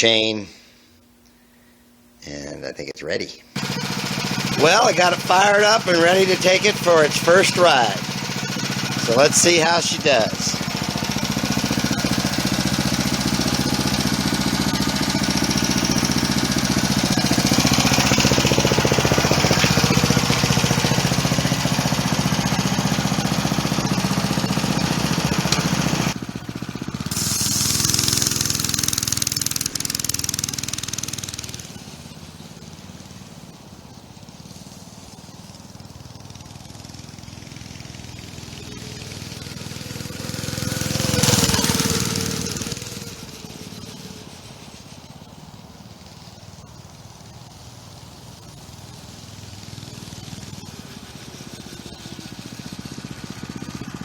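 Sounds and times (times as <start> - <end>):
small engine chugging: 3.5 - 54.0.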